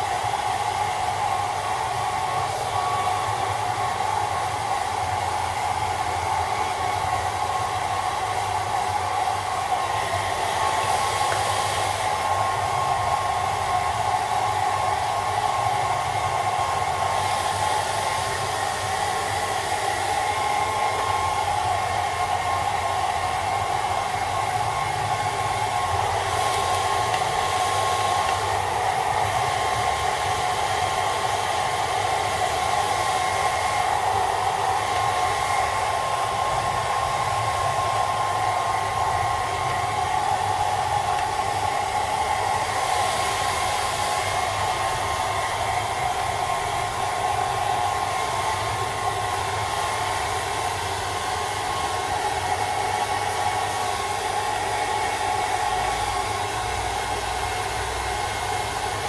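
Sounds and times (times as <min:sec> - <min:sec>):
hairdryer running: 0:00.0 - 0:59.0.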